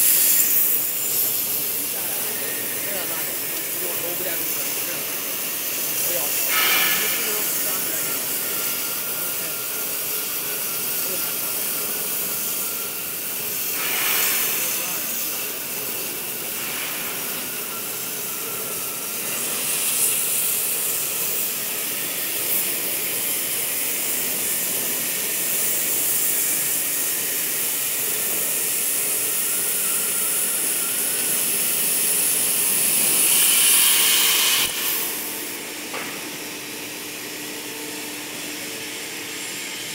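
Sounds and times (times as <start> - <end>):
cutting torches hissing: 0.0 - 35.6.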